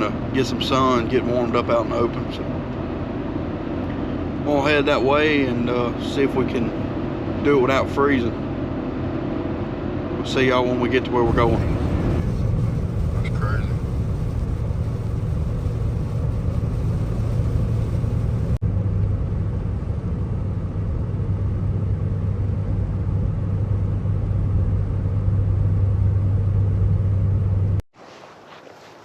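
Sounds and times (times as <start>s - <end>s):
truck engine and road drone: 0.0s - 27.8s.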